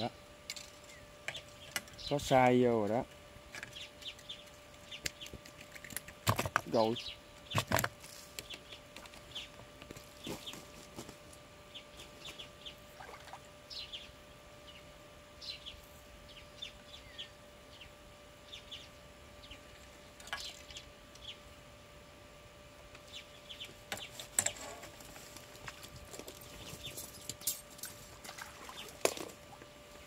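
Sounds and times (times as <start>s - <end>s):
birds chirping: 0.0s - 21.7s, 22.9s - 27.7s, 28.3s - 30.0s
faint steady hum: 0.0s - 30.0s.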